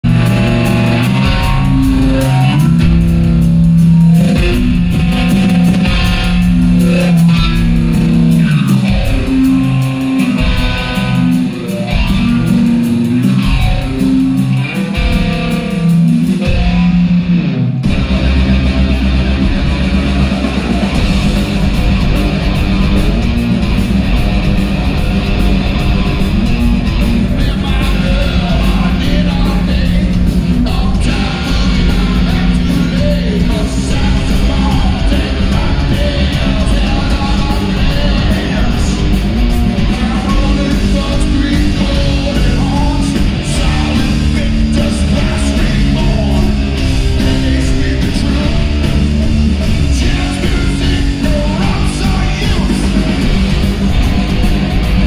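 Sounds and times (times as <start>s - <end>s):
distorted electric guitar riff: 0.0s - 55.0s
drums: 0.0s - 55.0s
hard rock band playing: 0.0s - 55.0s.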